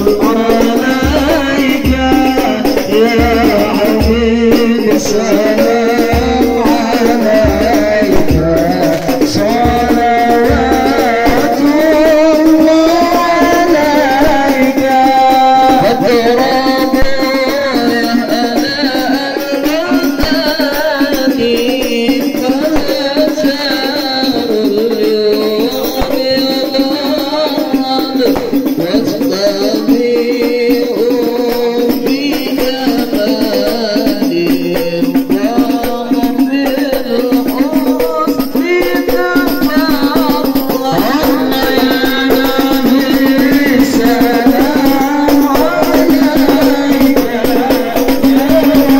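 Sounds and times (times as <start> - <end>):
group singing devotional song: 0.0 - 48.9
hand-beaten frame drums: 0.0 - 48.9.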